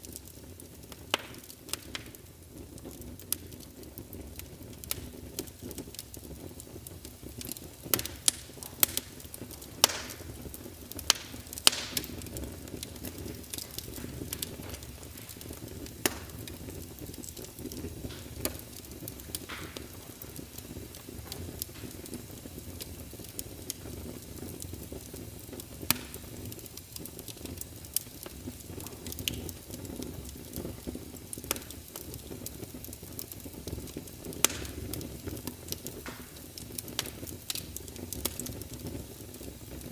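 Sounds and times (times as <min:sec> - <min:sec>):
steady rain hiss: 0:00.0 - 0:39.9
wood fire crackling and popping: 0:00.0 - 0:39.9.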